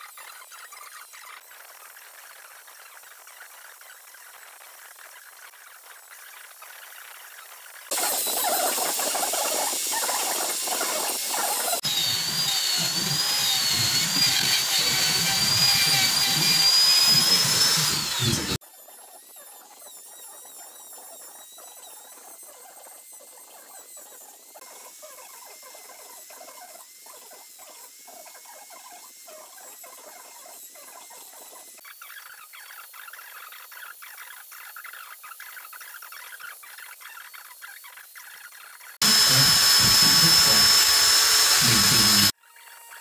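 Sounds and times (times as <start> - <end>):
rotary tool grinding wood: 0.0 - 42.4.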